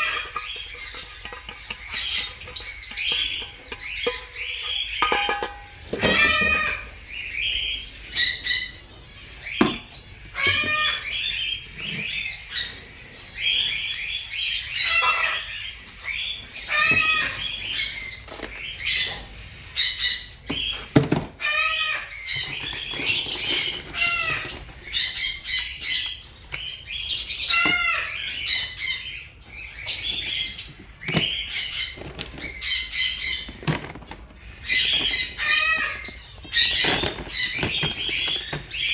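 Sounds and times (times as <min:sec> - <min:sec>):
parrots squawking: 0:00.0 - 0:20.4, 0:21.4 - 0:26.2, 0:26.8 - 0:30.7, 0:34.4 - 0:38.9.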